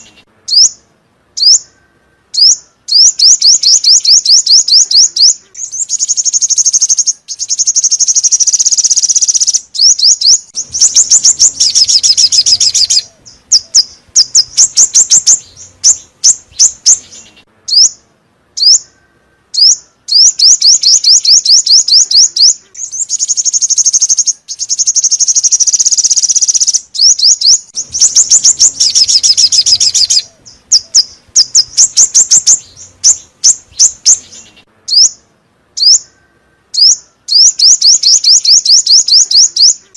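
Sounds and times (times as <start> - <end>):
recorded songbird song with trills: 0.0 - 39.9.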